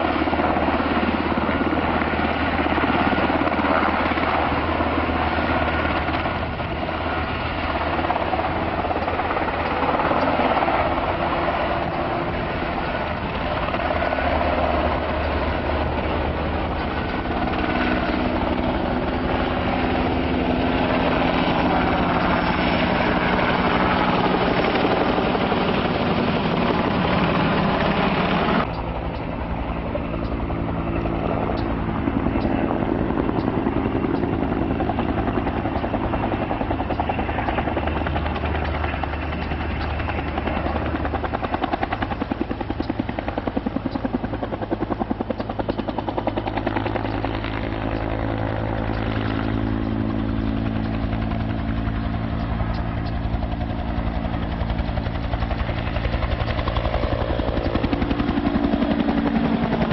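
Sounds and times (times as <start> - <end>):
helicopter hovering: 0.0 - 59.9
helicopter rotor and engines: 0.0 - 59.9.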